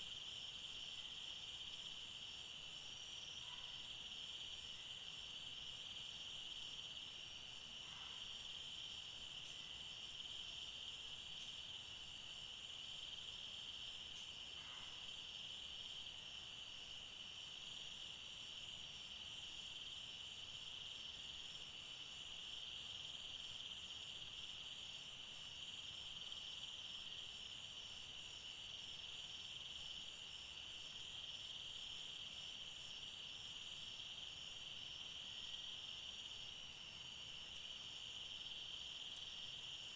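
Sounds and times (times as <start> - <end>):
chorus of forest insects: 0.0 - 39.9.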